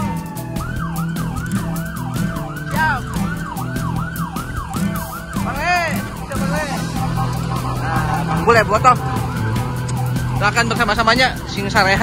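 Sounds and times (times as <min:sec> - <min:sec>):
siren whooping: 0:00.0 - 0:12.0
siren yelping: 0:00.0 - 0:12.0.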